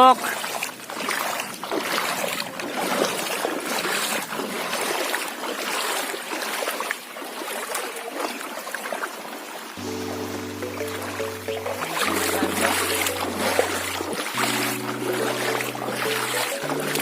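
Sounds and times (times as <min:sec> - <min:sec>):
floodwater rushing: 0:00.0 - 0:17.0
small water splashes: 0:00.0 - 0:17.0.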